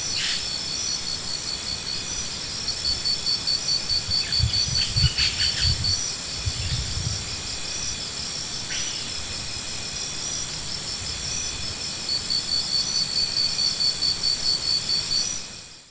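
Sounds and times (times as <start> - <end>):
insects chirping: 0.0 - 15.9.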